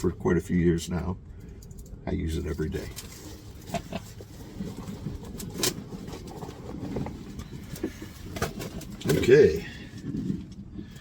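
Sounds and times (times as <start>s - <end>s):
low rustling handling noise: 1.5s - 11.0s.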